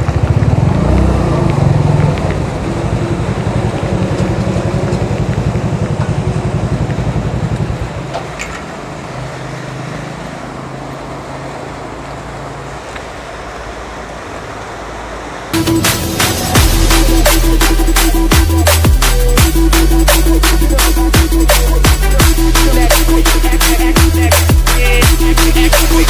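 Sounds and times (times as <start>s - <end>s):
motorcycle engine: 0.0s - 12.6s, 15.6s - 26.0s.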